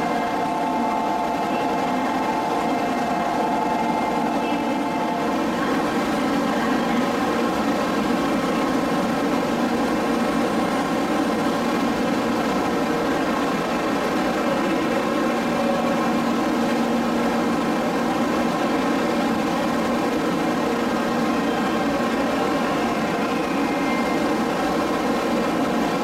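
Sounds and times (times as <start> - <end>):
train equipment humming chord: 0.0 - 26.0.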